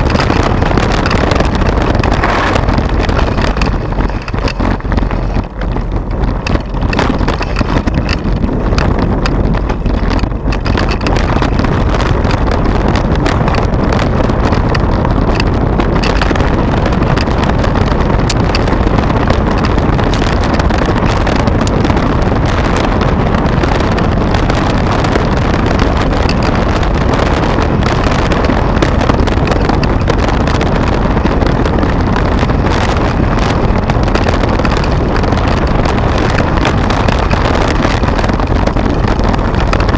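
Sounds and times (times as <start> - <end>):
bike tyres rattling over stones: 0.0 - 39.9
wind buffeting microphone: 0.0 - 39.9.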